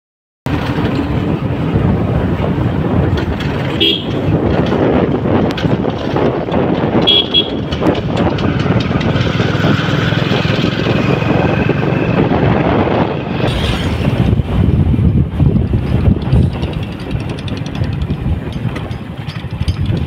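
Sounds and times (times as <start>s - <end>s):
vehicle engine and road noise: 0.5s - 20.0s
wind buffeting microphone: 0.5s - 20.0s.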